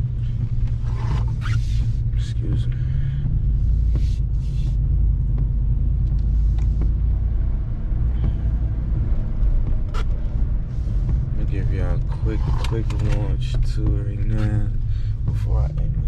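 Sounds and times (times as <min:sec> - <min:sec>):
truck engine and tyres rumbling: 0:00.0 - 0:16.0.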